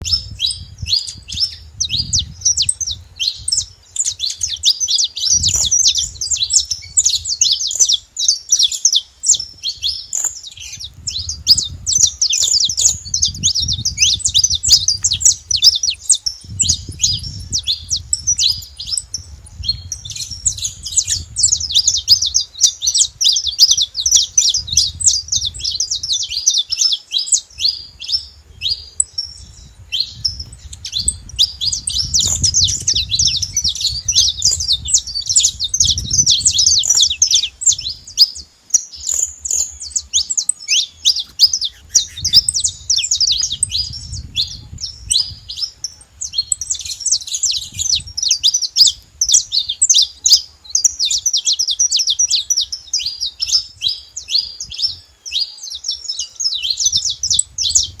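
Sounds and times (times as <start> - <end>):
finches chirping: 0.0 - 58.0.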